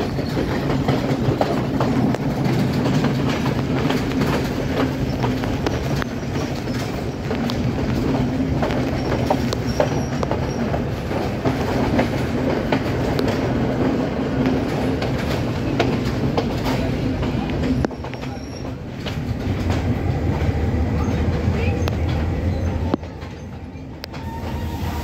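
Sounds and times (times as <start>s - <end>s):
wheels clicking over rail joints: 0.0s - 24.4s
train rumble and wheel noise: 0.0s - 25.0s.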